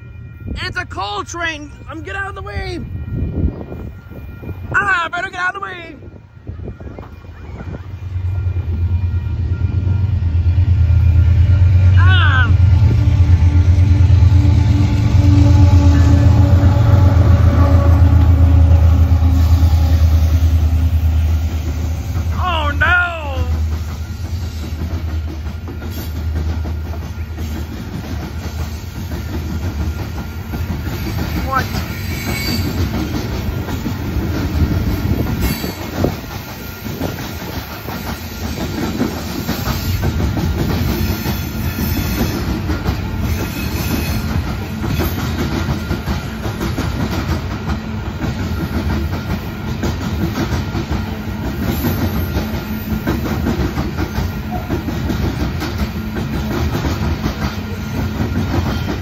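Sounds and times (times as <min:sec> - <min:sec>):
train cars rumbling past: 0:00.0 - 0:59.0.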